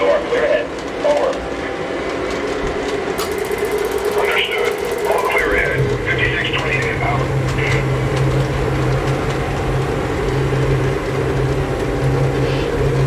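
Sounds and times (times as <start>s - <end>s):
model train engine hum: 0.0s - 13.0s.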